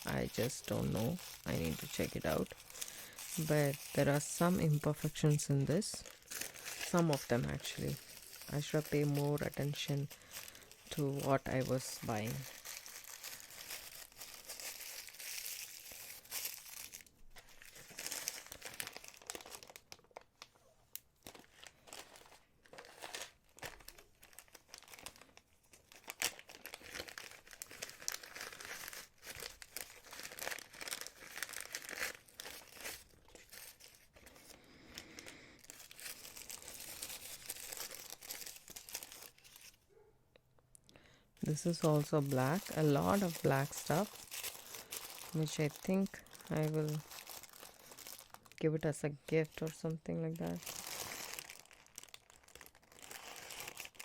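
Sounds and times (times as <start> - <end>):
packaging crinkling: 0.0 - 39.8, 41.4 - 54.0.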